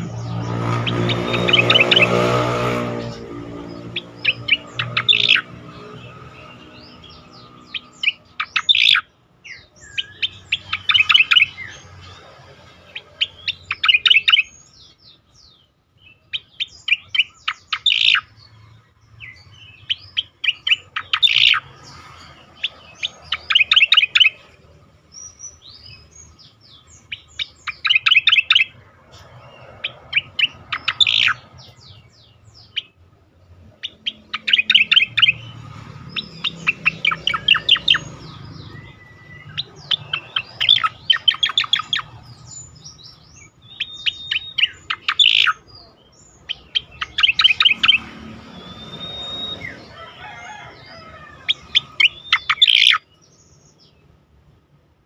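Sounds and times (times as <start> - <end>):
bird singing sharp notes: 0.0 - 33.0, 33.8 - 50.6, 51.5 - 54.0.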